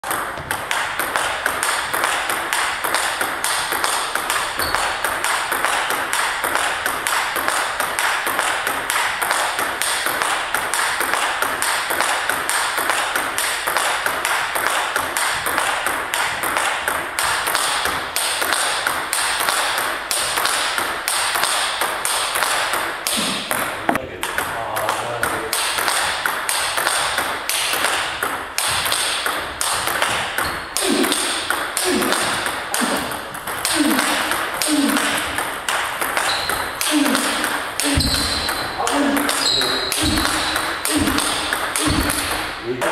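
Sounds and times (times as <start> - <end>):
table tennis ball clicking: 0.1 - 42.6.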